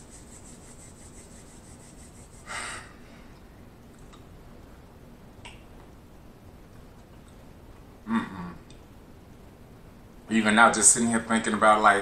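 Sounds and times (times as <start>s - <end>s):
room hiss: 0.0s - 12.0s.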